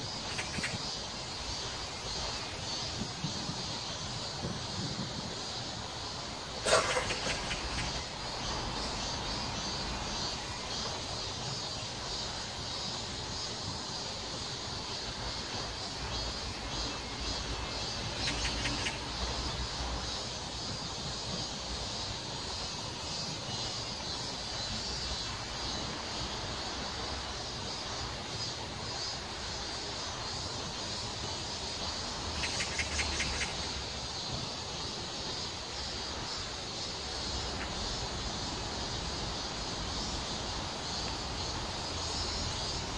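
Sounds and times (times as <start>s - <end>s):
insects buzzing: 0.0s - 42.9s
rapid insect trilling: 0.0s - 42.9s.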